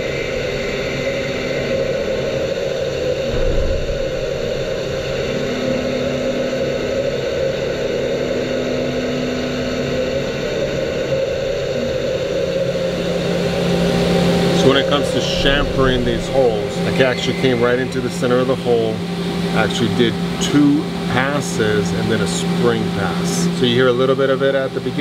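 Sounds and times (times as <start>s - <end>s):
hum-like tone: 0.0s - 25.0s
machine spindle whir: 0.0s - 25.0s.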